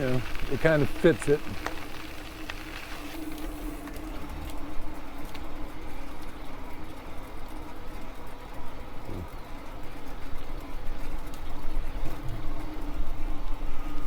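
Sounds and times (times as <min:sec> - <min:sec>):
electric bike motor whine: 0:00.0 - 0:14.0.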